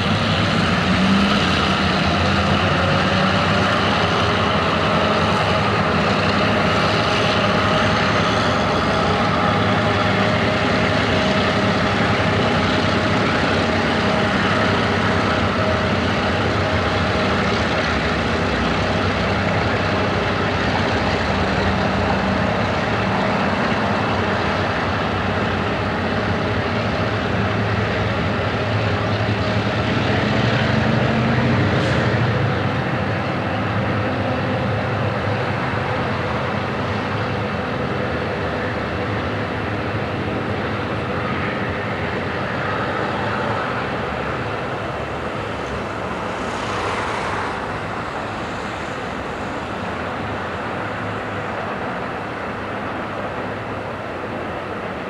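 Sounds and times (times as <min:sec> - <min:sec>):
diesel locomotive engines running: 0:00.0 - 0:55.0.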